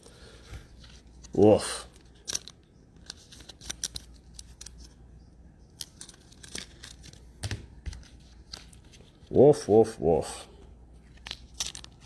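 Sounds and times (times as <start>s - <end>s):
cards and packaging handled: 0.1s - 5.0s, 5.6s - 9.8s, 11.0s - 12.0s.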